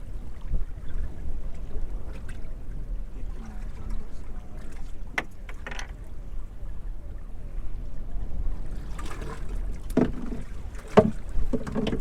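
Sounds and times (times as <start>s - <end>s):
wind and water around a boat: 0.0s - 12.0s.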